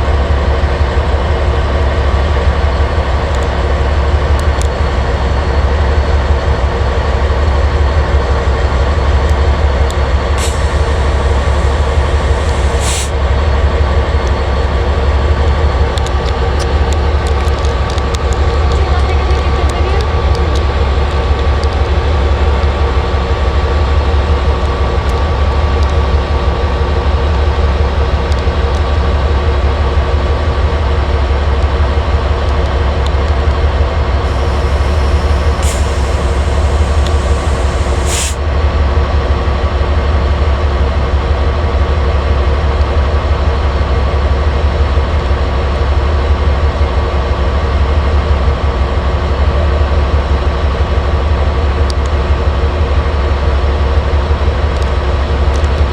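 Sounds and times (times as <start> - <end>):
train running with low drone: 0.0 - 55.9.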